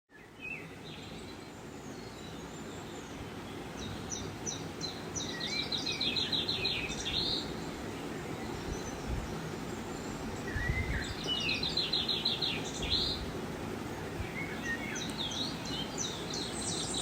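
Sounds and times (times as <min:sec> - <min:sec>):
birds singing: 0:00.1 - 0:17.0
low background noise: 0:00.1 - 0:17.0.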